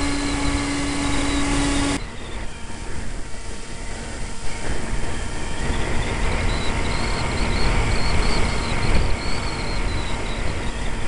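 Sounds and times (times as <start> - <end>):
electric motor and propeller whining: 0.0 - 11.0
wind buffeting microphone: 0.0 - 11.0.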